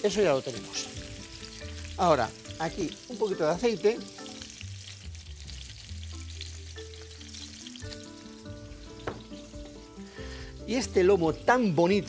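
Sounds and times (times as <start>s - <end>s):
oil sizzling in a pan: 0.0s - 12.0s
soft background music: 0.0s - 12.0s.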